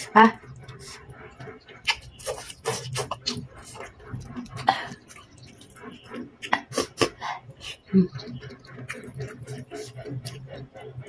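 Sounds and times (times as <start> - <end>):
person slurping noodles: 0.0 - 10.9
chewing and mouth clicks: 0.0 - 11.0.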